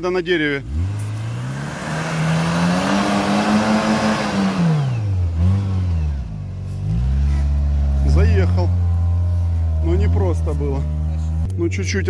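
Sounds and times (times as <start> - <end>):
engine revving hard: 0.6 - 11.5.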